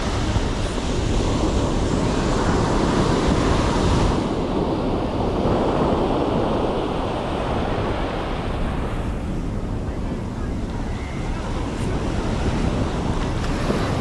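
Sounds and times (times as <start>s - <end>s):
ocean surf washing onto beach: 0.0s - 14.0s
wind buffeting microphone: 0.0s - 14.0s.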